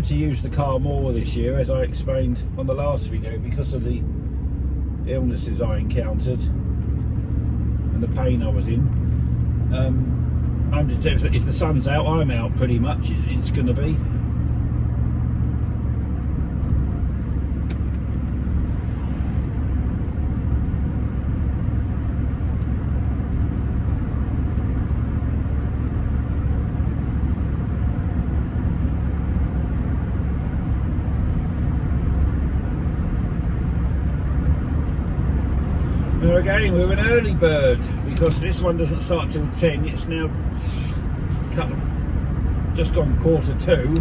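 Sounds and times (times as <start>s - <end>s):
car engine cruising: 0.0s - 44.0s
road noise inside car: 0.0s - 44.0s.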